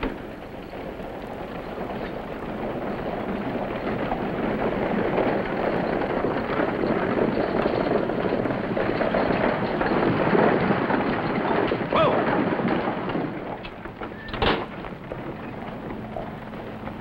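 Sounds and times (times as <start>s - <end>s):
coach wheels clattering: 0.0s - 17.0s
horse hooves clattering: 0.0s - 17.0s.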